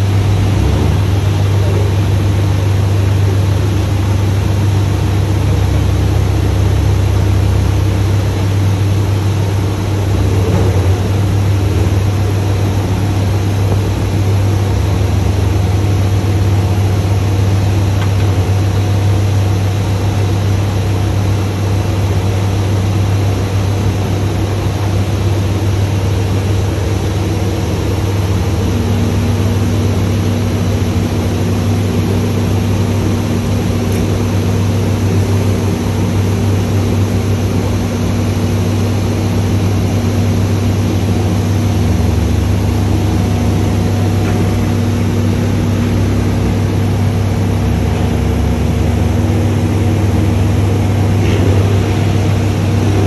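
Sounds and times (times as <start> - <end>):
diesel truck engine running: 0.0 - 53.0
hydraulic crane whine: 0.0 - 53.0.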